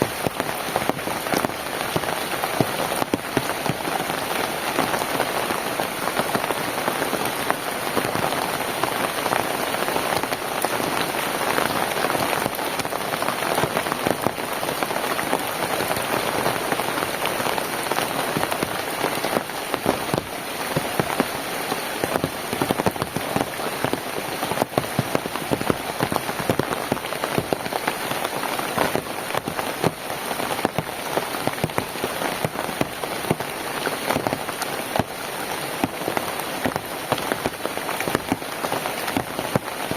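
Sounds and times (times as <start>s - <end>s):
heavy rain: 0.0s - 39.9s
raindrops pattering on a surface: 0.0s - 39.9s.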